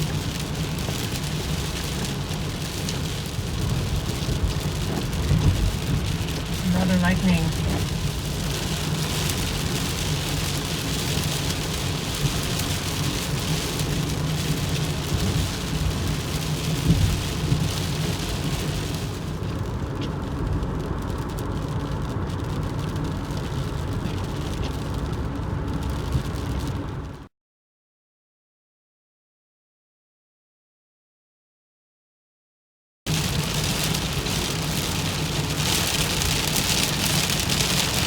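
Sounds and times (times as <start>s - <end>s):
rain hitting a car: 0.0s - 27.3s, 33.1s - 38.0s
road and engine drone: 0.0s - 27.3s, 33.1s - 38.0s.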